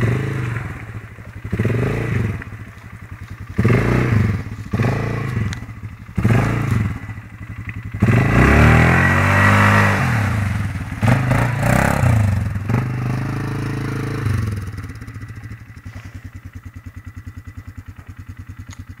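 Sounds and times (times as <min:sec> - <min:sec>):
engine idling: 0:00.0 - 0:09.3, 0:10.0 - 0:19.0
quad engine revving: 0:00.0 - 0:16.2.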